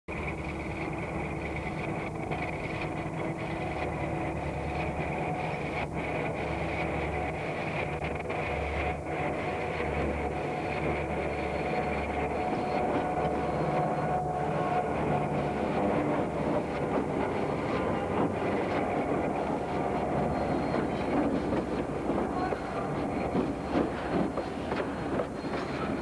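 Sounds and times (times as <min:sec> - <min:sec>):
diesel locomotive passing: 0:00.1 - 0:26.0.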